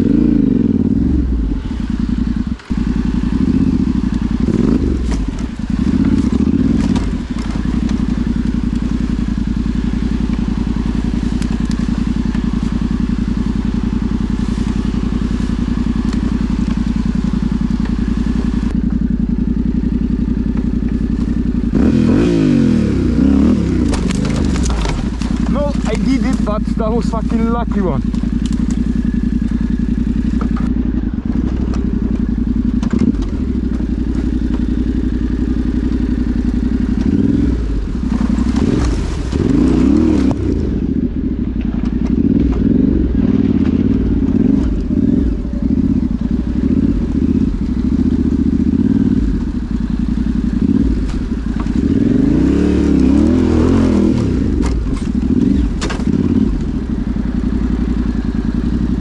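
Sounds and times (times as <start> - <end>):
motorcycle engine revving: 0.0 - 59.0
bike clattering over rough ground: 4.0 - 18.6, 23.2 - 40.7, 41.5 - 59.0.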